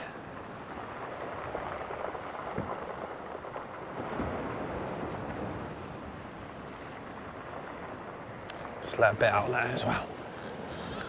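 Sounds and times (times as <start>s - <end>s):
sea wash on rocks: 0.0s - 11.0s
wind: 0.0s - 11.0s.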